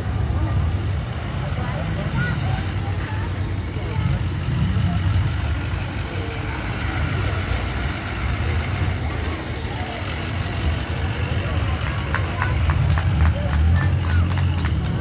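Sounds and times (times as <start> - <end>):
truck engines rolling slowly past: 0.0 - 15.0.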